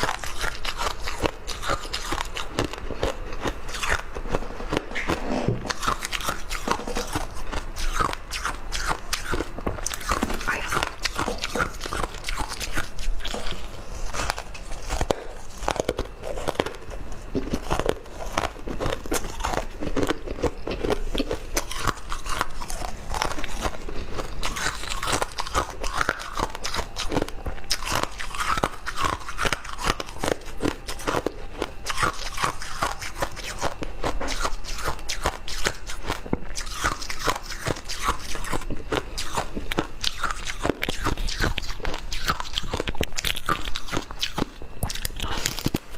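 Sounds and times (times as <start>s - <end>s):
person chewing ice: 0.0s - 45.9s.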